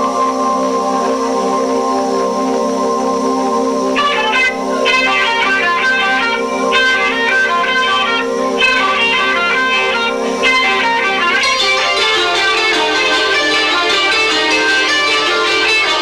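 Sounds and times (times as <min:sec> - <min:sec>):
electric guitar: 0:00.0 - 0:16.0.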